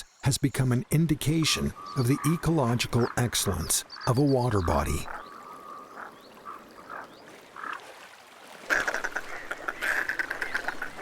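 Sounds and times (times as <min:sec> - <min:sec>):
ducks calling: 0:01.4 - 0:07.9, 0:08.6 - 0:11.0.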